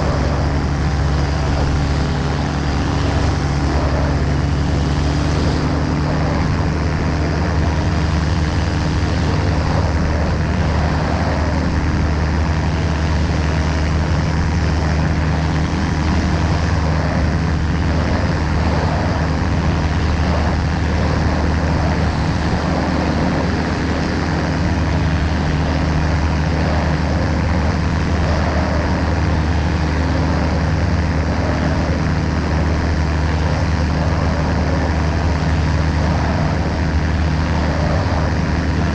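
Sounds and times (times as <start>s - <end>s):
ultralight aircraft engine drone: 0.0s - 38.9s.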